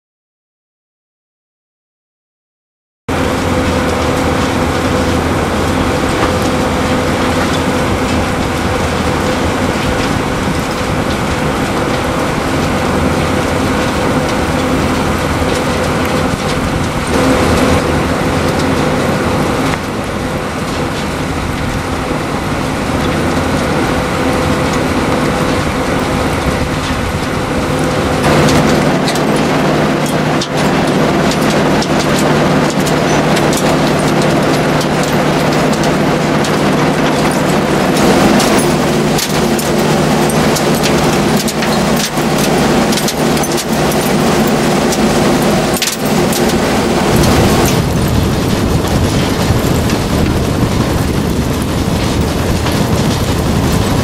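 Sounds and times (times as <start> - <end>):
constant machine hum: 3.1 - 54.0
excavator working: 3.1 - 54.0
screening machinery running: 3.1 - 54.0.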